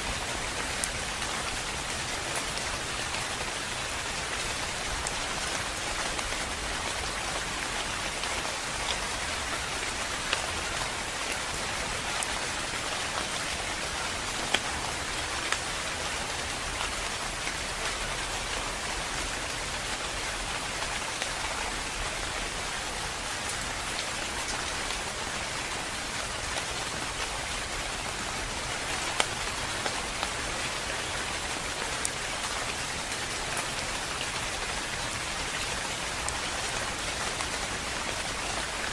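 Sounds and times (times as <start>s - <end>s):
rain drops striking: 0.0s - 38.9s
steady rain hiss: 0.0s - 38.9s.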